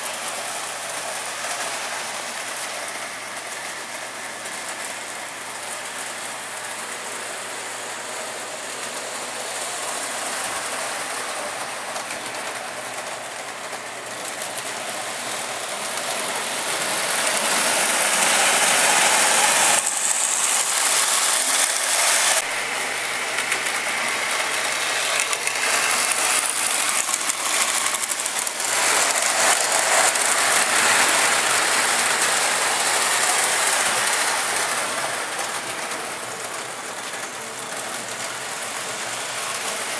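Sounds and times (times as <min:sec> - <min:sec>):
model train motor whirring: 0:00.0 - 0:39.9
wheels rattling on rails: 0:00.0 - 0:39.9.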